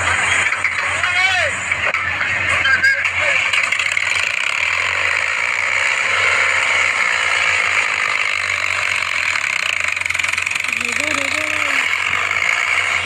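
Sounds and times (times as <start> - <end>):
tractor engine rattling: 0.0 - 13.0.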